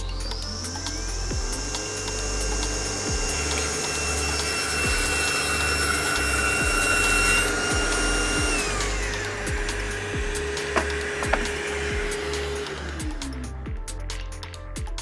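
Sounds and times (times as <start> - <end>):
table saw whining: 0.0 - 13.5
background music with beat: 0.0 - 15.0.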